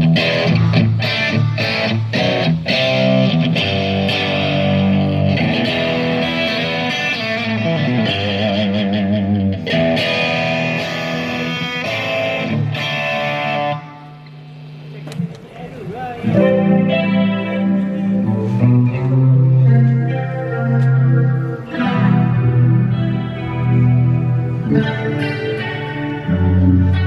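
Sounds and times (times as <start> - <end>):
electric guitar sustained notes: 0.0 - 27.0.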